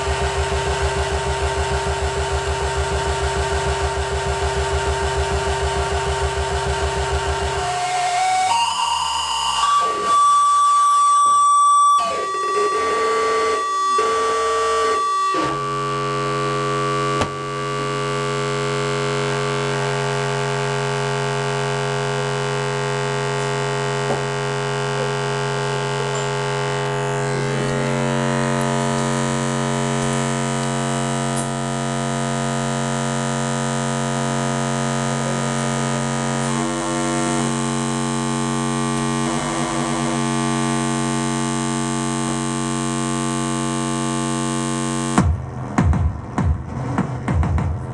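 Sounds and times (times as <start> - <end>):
stuttering synthesizer tones: 0.0 - 45.4
harsh droning synthesizer chord: 0.0 - 46.5.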